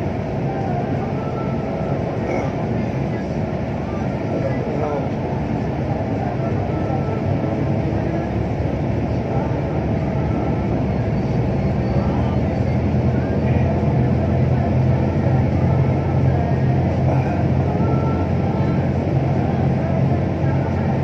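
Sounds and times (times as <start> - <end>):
truck engine hum: 0.0 - 21.0.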